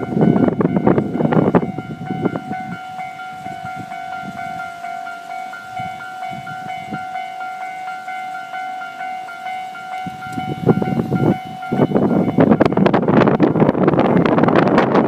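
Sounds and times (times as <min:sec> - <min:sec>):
level crossing warning bell ringing: 0:00.0 - 0:14.6.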